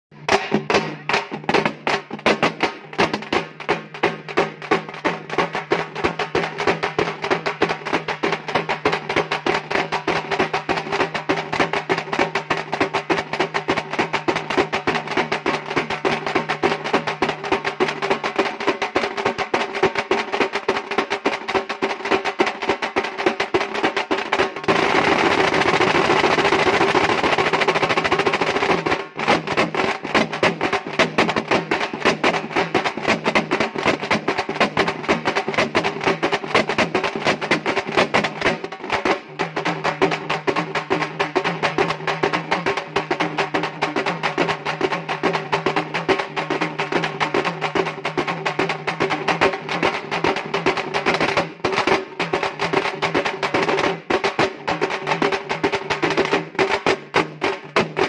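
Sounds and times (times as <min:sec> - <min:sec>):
frame drums beaten with sticks: 0:00.1 - 0:58.0.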